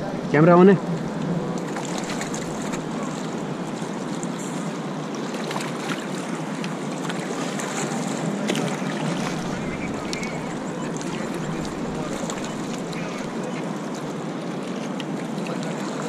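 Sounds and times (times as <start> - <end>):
river water rushing: 0.0 - 16.0
paddle splashes: 0.9 - 16.0.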